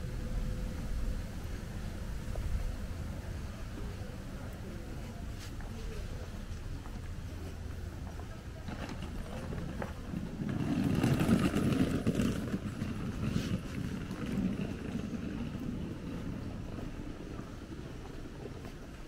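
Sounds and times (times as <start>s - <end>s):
footsteps on paved street: 1.5s - 19.0s.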